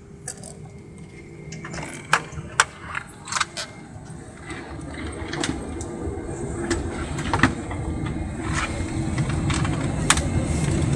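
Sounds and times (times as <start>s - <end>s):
airliner cabin rumble and hum: 0.0s - 10.9s.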